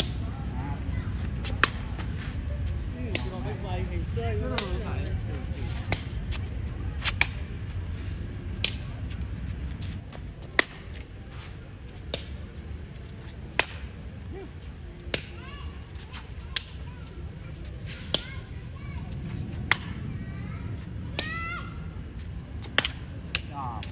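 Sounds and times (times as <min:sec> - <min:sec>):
foot slapping shuttlecock: 0:00.0 - 0:00.3, 0:01.1 - 0:03.6, 0:04.4 - 0:14.1, 0:15.0 - 0:20.1, 0:22.2 - 0:23.9.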